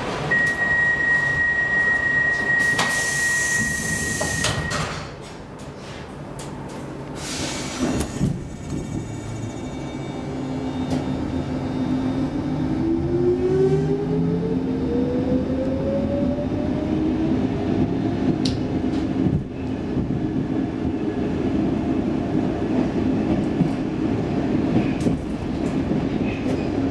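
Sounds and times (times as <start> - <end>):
subway train wheel and track rumble: 0.0 - 26.9.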